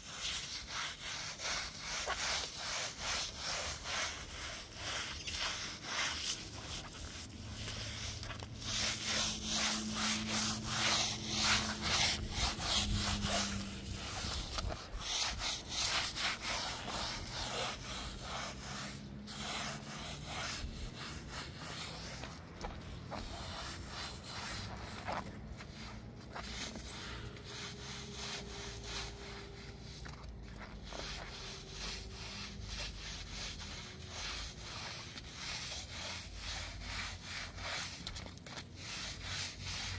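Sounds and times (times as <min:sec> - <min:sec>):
broom scrubbing wet rug: 0:00.0 - 0:39.9.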